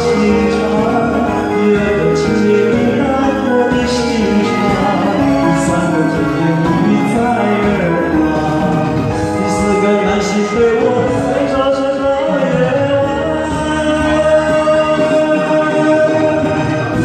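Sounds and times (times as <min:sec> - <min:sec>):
musical accompaniment: 0:00.0 - 0:17.0
person singing slow song: 0:00.0 - 0:17.0.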